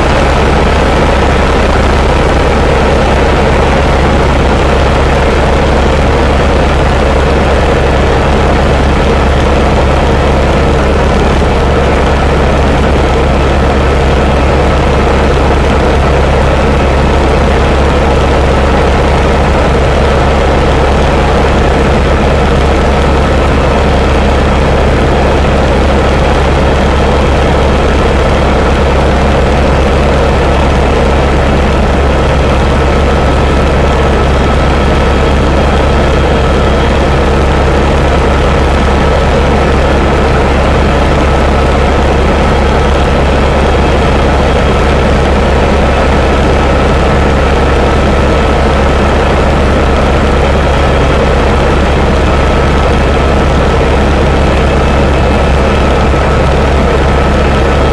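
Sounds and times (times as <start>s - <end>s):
helicopter engine and rotor noise: 0.0s - 57.9s.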